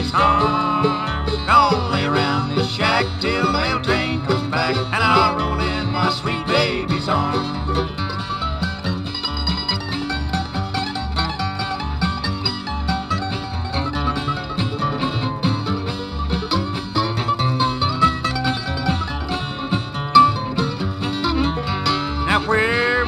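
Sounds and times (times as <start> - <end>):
bluegrass string band playing: 0.0 - 23.0.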